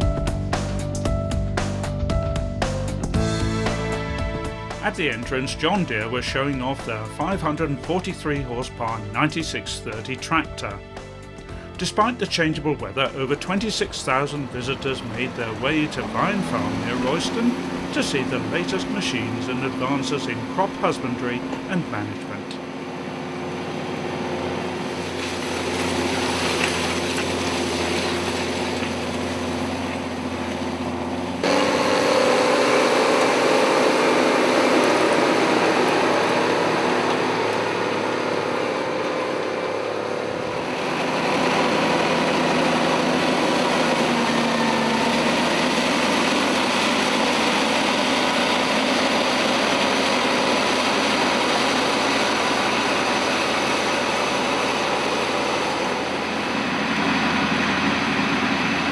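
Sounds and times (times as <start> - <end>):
tractor engines running under load: 1.6 - 58.9.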